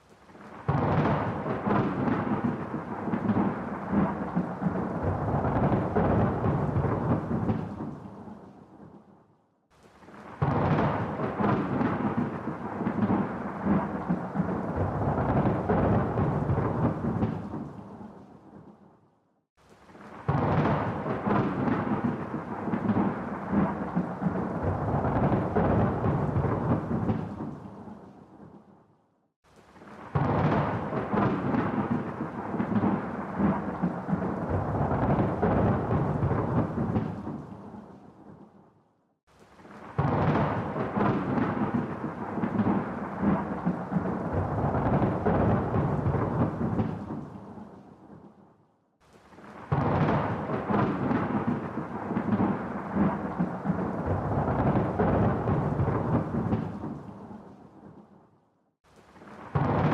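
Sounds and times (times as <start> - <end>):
thunder rumbling: 0.3 - 8.9, 10.0 - 18.7, 19.9 - 28.6, 29.8 - 38.4, 39.6 - 48.2, 49.3 - 58.0, 59.2 - 59.9.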